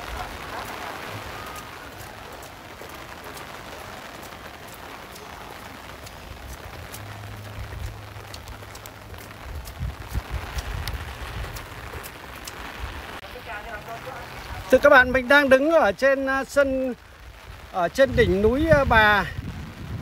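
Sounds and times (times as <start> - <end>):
rain on paving and foliage: 0.0 - 20.0.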